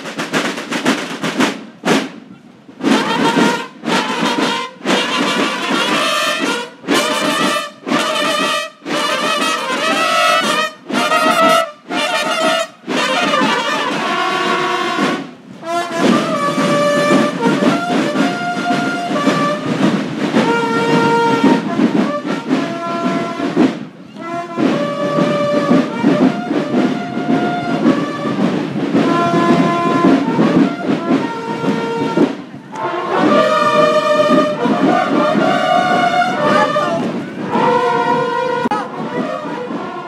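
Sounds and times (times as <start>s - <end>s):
brass band playing: 2.8s - 40.0s.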